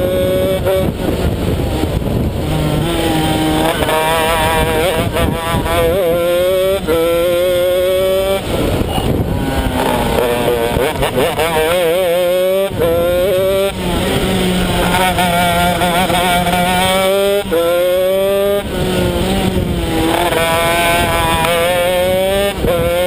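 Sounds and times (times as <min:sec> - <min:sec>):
two-stroke kart engine revving: 0:00.0 - 0:23.0.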